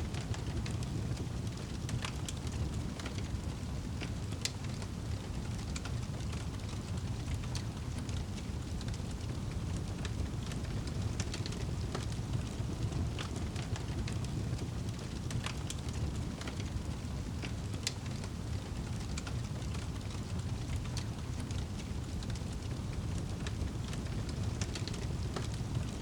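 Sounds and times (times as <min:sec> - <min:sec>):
fire crackles and pops: 0:00.0 - 0:26.0
fire flames rumbling: 0:00.0 - 0:26.0.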